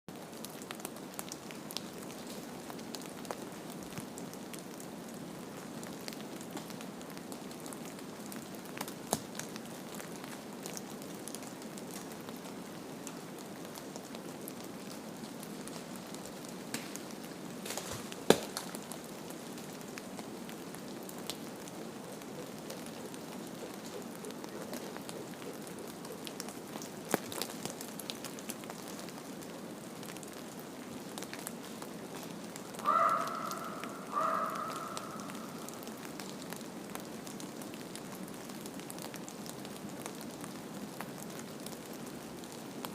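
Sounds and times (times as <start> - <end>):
crackles and pops: 5.6 - 42.9.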